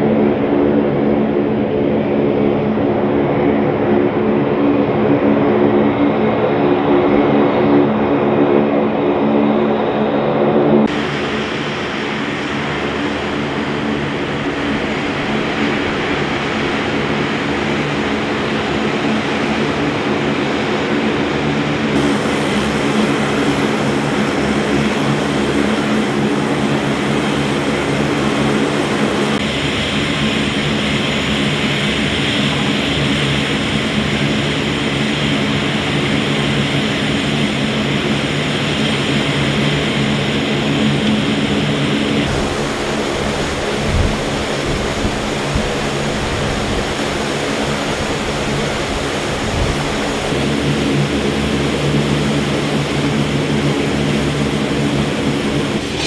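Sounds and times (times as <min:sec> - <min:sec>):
turboprop engines running: 0:00.0 - 0:56.0.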